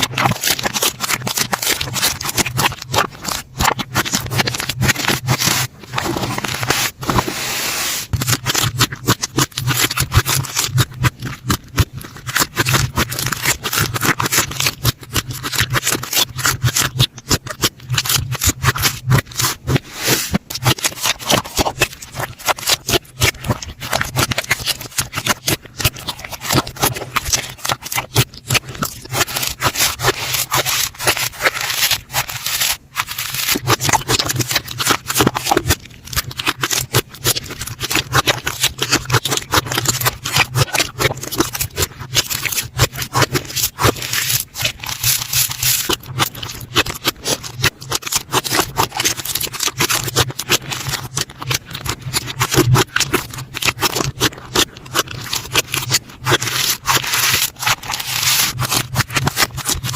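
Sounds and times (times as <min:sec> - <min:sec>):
slime squeezed crackling and popping: 0:00.0 - 0:07.2, 0:08.1 - 0:59.9.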